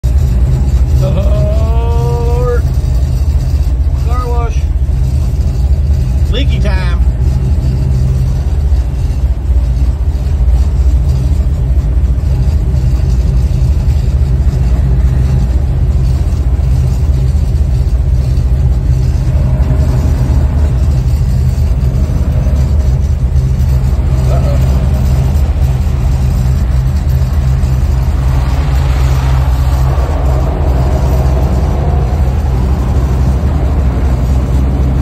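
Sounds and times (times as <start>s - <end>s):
car engine idling: 0.0s - 35.0s
car wash spray and brushes: 0.1s - 35.0s.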